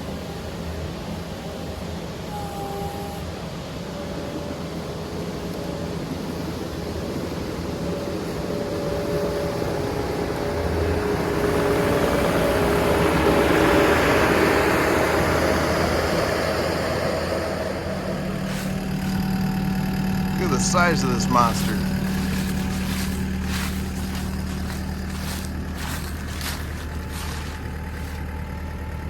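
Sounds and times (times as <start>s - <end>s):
skid steer engine running: 0.0s - 29.0s.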